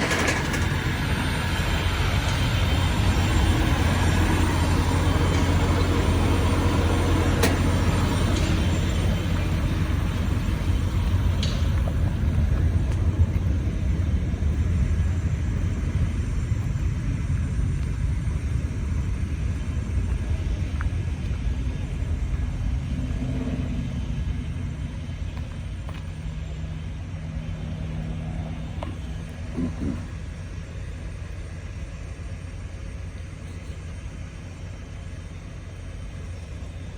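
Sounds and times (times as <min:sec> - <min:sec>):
low engine rumble: 0:00.0 - 0:36.9.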